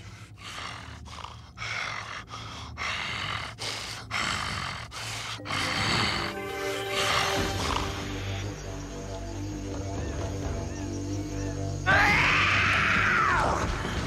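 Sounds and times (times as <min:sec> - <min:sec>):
heavy animal breathing: 0:00.0 - 0:11.8
low music drone: 0:00.0 - 0:14.0.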